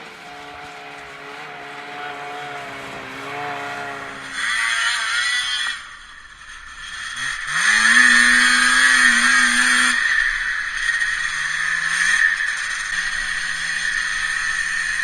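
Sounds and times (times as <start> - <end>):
rush of snowmobile track: 0.0 - 15.0
snowmobile engine revving: 0.0 - 15.0.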